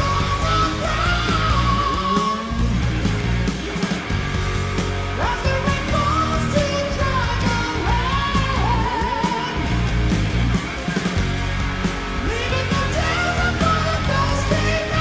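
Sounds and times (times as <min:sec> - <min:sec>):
heavy metal band playing live: 0:00.0 - 0:15.0.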